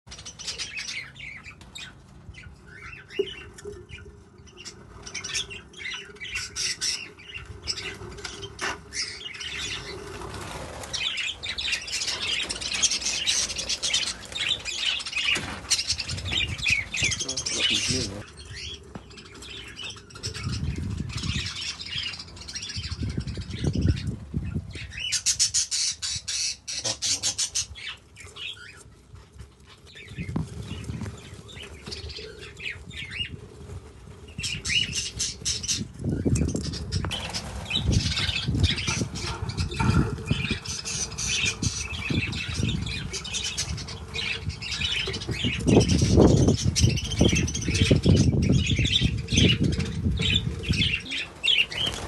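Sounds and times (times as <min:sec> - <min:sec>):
budgerigars chattering and squawking: 0:00.2 - 0:28.8, 0:34.3 - 0:52.0.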